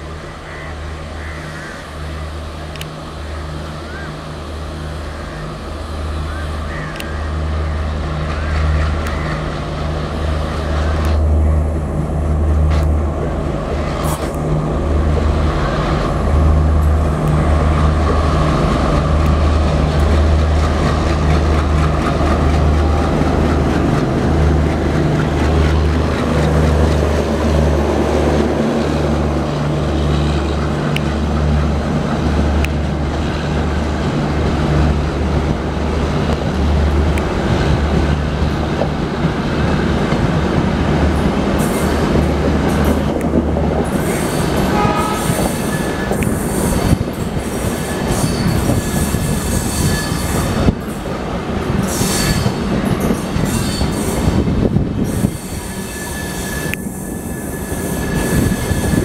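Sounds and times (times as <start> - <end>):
diesel locomotive engine throbbing: 0.0 - 59.0.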